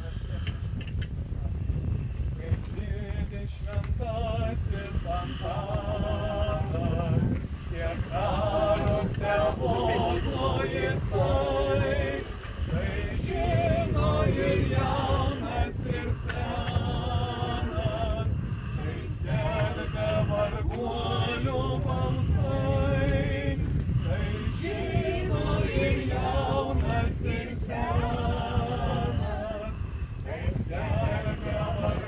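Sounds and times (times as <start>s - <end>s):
low rumble: 0.0s - 32.0s
choir singing a cappella: 2.6s - 32.0s.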